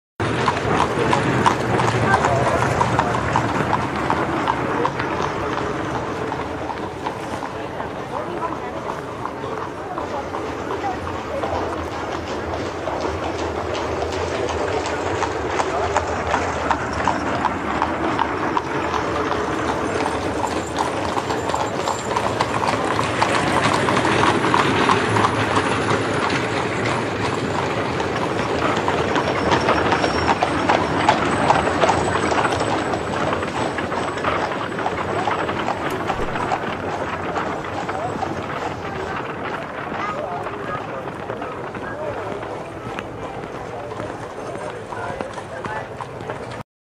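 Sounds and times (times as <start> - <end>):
horse hooves clip-clopping: 0.2 - 46.6
rumble of carriage wheels: 0.2 - 46.6.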